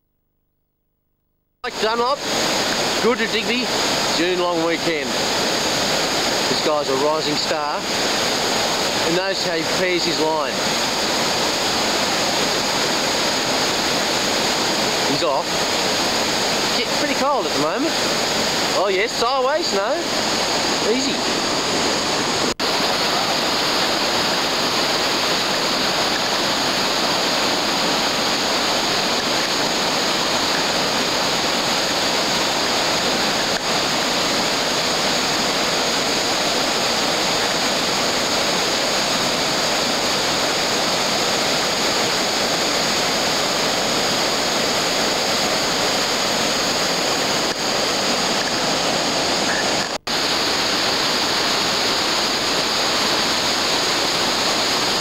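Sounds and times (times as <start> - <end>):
river rapids rushing: 1.7 - 55.0.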